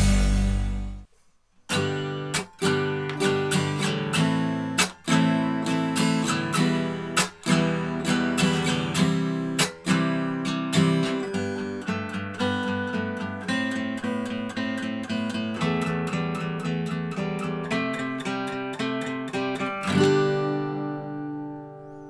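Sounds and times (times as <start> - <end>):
acoustic guitar strumming: 0.0 - 1.1, 1.7 - 22.0.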